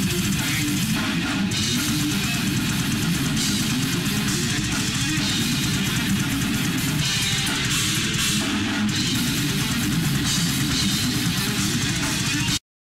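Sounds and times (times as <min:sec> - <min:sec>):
drum kit: 0:00.0 - 0:12.6
electric guitar heavy rock: 0:00.0 - 0:12.6.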